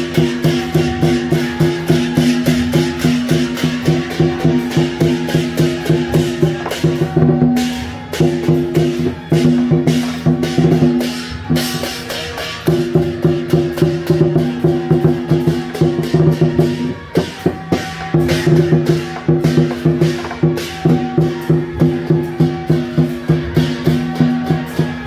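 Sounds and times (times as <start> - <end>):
fast steady percussion: 0.0 - 25.0.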